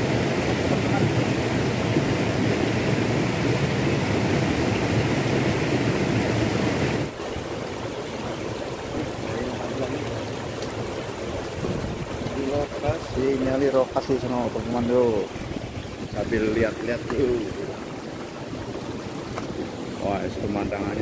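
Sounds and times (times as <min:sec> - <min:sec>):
stream rushing over rocks: 0:00.0 - 0:21.0
water running between stones: 0:00.0 - 0:21.0.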